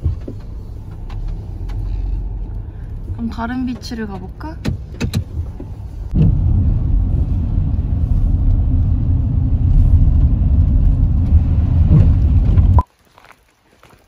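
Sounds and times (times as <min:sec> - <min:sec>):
car road and engine rumble: 0:00.0 - 0:12.9.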